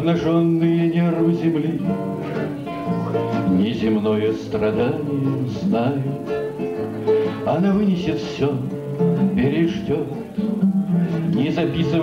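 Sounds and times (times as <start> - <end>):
man singing: 0.0 - 2.5, 3.1 - 6.5, 7.2 - 12.0
acoustic guitar: 0.0 - 12.0.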